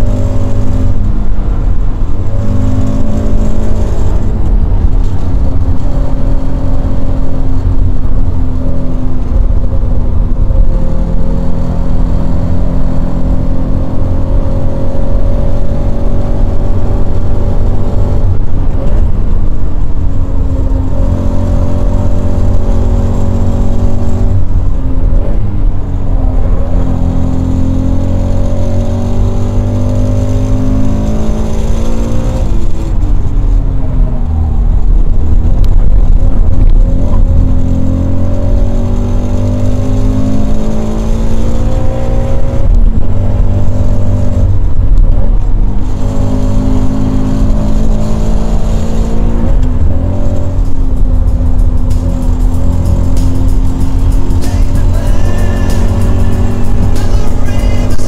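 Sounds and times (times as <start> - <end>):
car engine revving hard: 0.0 - 58.0.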